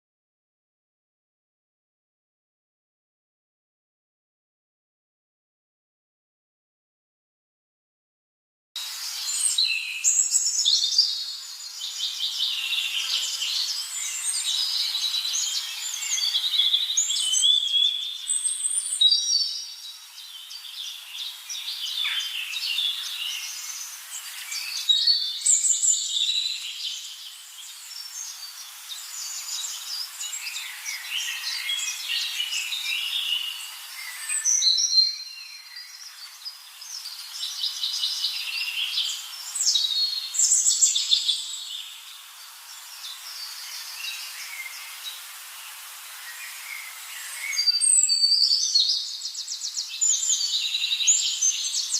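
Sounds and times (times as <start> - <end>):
songbirds chirping and singing: 8.9 - 45.3, 46.1 - 51.9.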